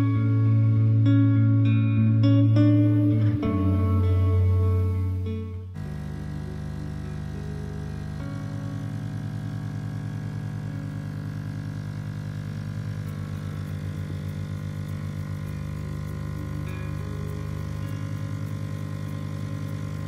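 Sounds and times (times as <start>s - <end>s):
coffee machine pump humming: 2.3s - 20.0s.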